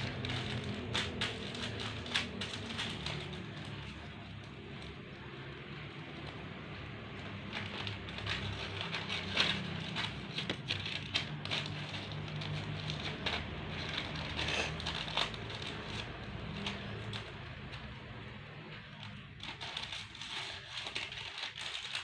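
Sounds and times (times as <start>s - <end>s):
crackling and crinkling: 0.0s - 22.0s.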